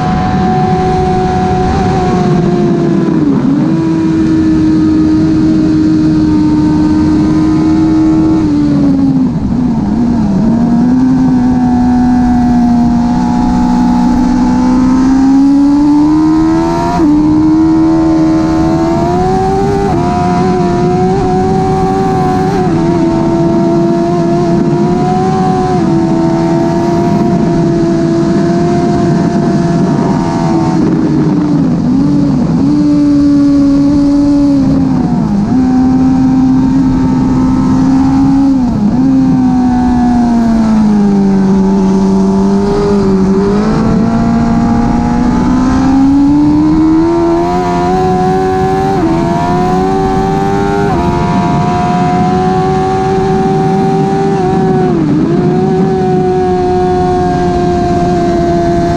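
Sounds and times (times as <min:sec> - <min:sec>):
motorcycle engine at high revs: 0:00.0 - 0:58.9.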